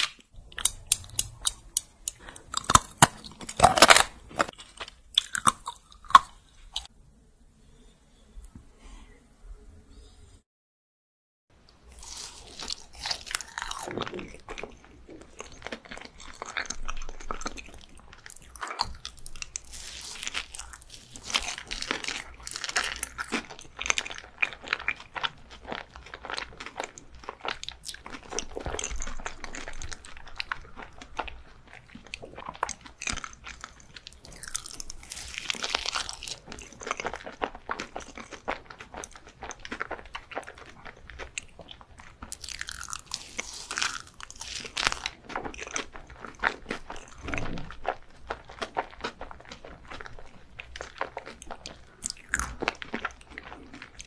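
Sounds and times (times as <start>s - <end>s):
crunching and chewing sweets: 0.0s - 6.9s, 11.6s - 54.0s.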